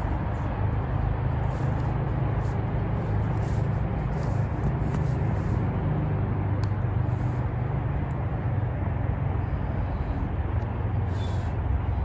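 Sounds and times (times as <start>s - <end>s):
outdoor background rumble and hiss: 0.0s - 12.0s.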